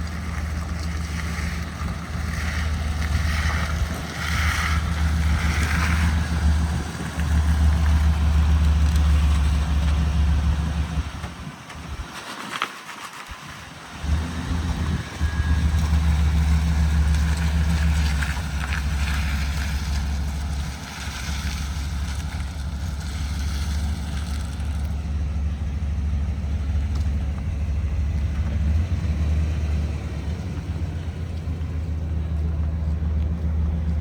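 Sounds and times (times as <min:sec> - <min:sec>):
truck engine humming: 0:00.0 - 0:12.2, 0:13.3 - 0:34.0.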